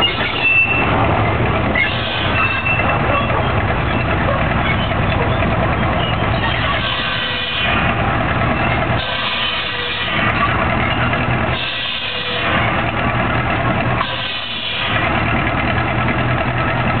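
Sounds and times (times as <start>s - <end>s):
low machine drone: 0.0s - 17.0s.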